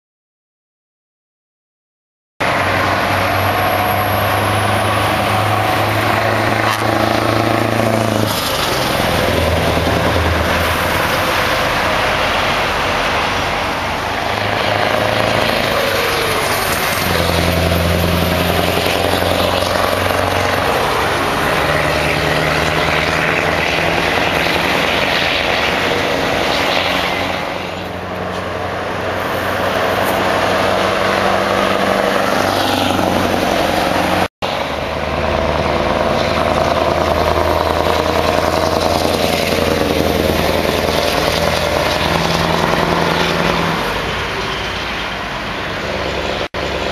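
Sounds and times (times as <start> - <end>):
truck engines revving: 2.4 - 46.9.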